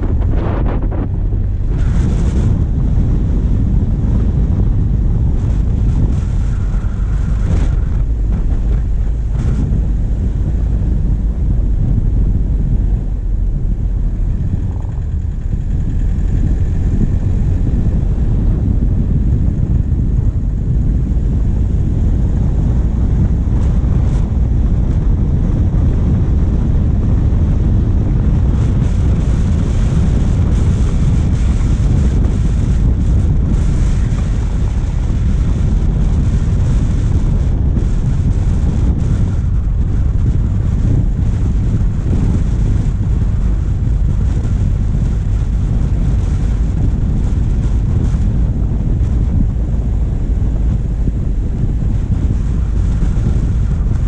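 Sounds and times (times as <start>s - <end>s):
diesel engine running: 0.0s - 54.0s
wind rumble on microphone: 0.0s - 54.0s.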